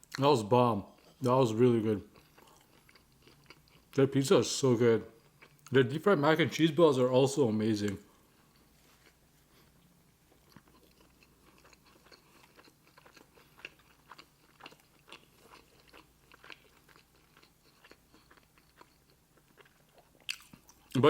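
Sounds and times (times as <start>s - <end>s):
close-miked chewing: 0.9s - 4.0s, 5.1s - 5.8s, 7.8s - 21.0s.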